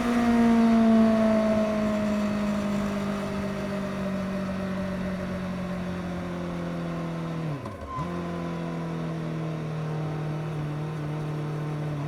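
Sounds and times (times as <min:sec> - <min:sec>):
motorcycle engine at speed: 0:00.0 - 0:12.0.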